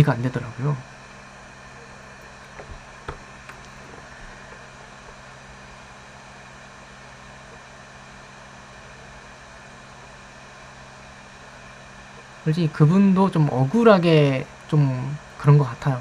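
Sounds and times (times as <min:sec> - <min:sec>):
background hum and hiss: 0:00.0 - 0:16.0.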